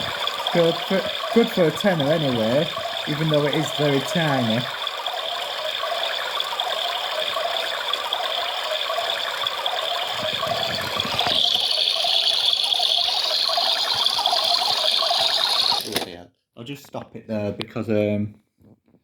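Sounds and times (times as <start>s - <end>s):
drum rattling in water: 0.0s - 16.0s
toy washing machine motor whirring: 0.0s - 16.1s.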